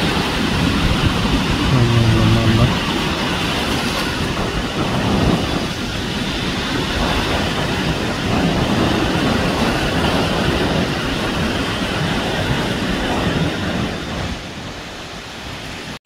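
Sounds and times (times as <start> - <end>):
rushing sea water: 0.0 - 16.0
wind buffeting microphone: 0.0 - 16.0.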